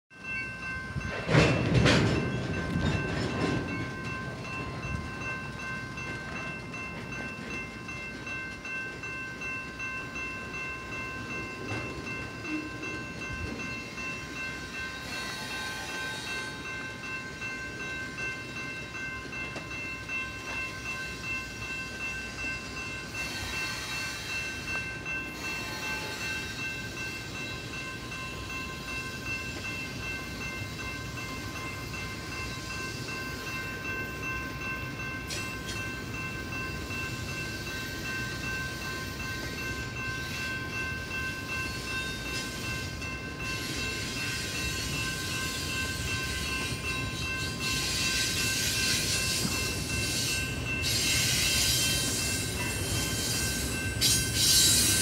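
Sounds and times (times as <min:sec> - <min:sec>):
train rolling past: 0:00.1 - 0:55.0.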